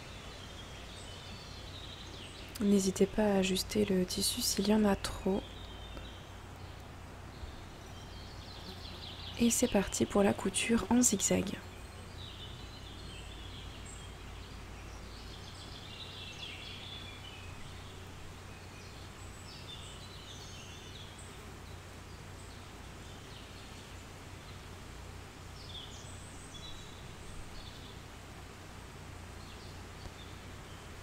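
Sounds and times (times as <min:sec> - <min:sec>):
birds chirping: 0:00.0 - 0:24.8, 0:25.4 - 0:28.2.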